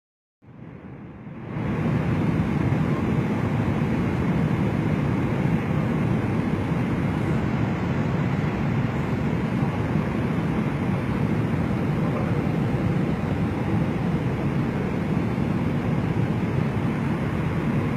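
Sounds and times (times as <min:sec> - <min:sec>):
airliner engine and airflow noise: 0:00.4 - 0:17.9.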